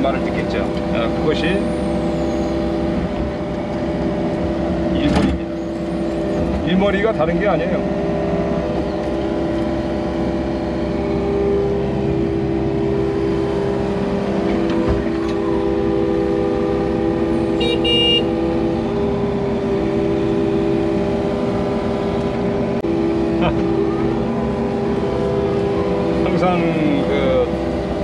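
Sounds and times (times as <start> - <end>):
excavator engine and hydraulics: 0.0 - 28.0.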